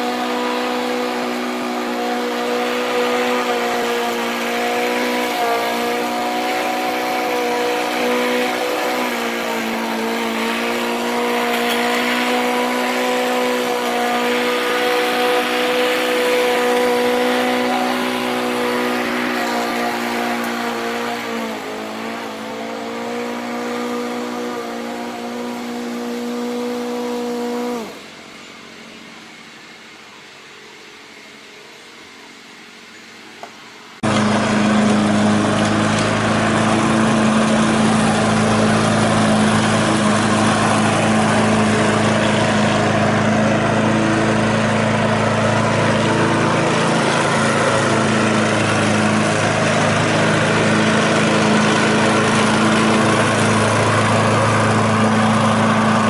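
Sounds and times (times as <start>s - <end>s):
lawn mower engine running: 0.0s - 32.1s, 32.7s - 56.0s.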